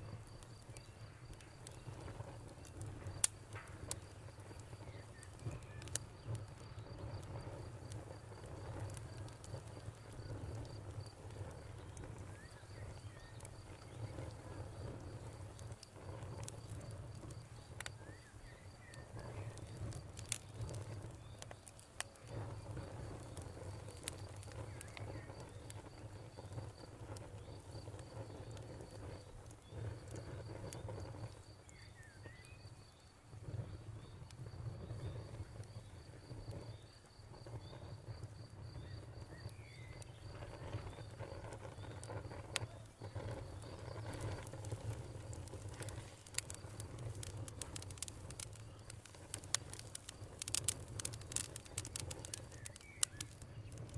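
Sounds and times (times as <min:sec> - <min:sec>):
campfire crackling and popping: 0:00.0 - 0:53.9
cricket chirping: 0:00.0 - 0:53.9.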